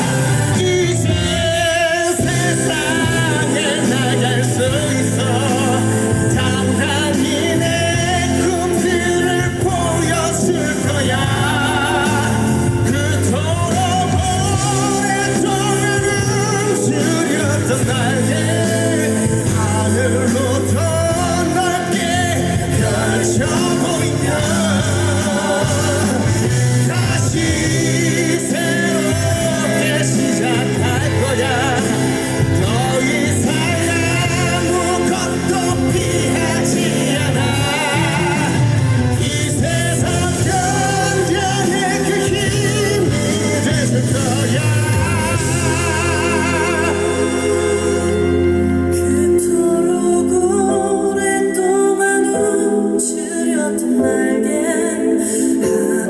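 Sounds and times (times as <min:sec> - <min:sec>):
live rock band playing: 0:00.0 - 0:52.2
man singing: 0:00.0 - 0:56.0.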